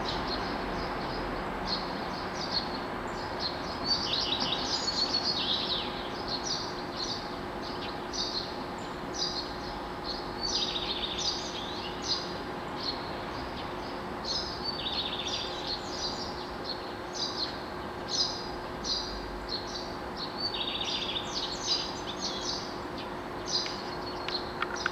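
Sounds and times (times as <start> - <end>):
songbirds chirping: 0.0 - 24.9
steady background noise: 0.0 - 24.9.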